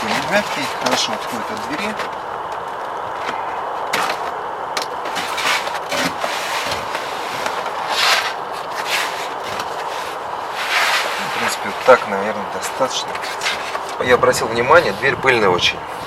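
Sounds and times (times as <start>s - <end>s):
plastic membrane crackling and rustling: 0.0s - 14.8s
steady background noise: 0.0s - 16.0s.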